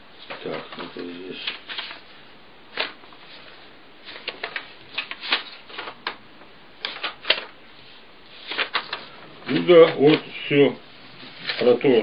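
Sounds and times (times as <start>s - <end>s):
paper rustling and flicking: 0.2s - 6.2s, 6.8s - 10.5s, 11.2s - 12.0s.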